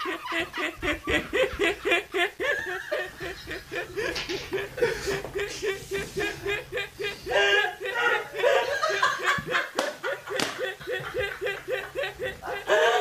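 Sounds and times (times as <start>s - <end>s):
man and woman laughing: 0.0s - 13.0s.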